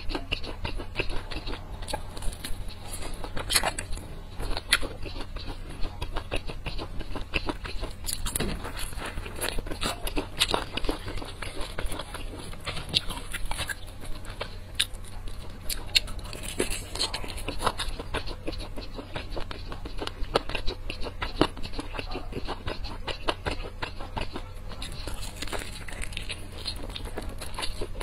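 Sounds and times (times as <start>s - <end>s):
chewing: 0.0s - 28.0s
fried chicken crackling: 0.0s - 28.0s.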